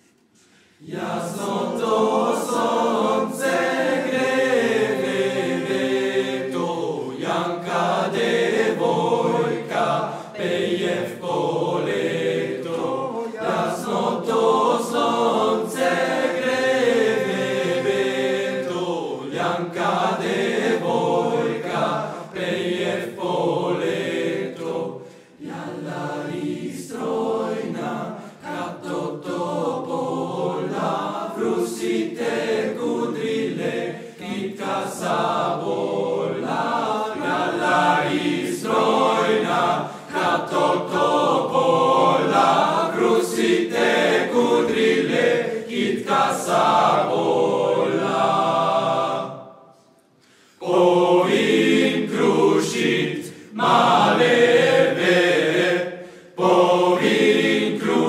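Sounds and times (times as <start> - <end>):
men's choir singing folk song: 0.8 - 58.0.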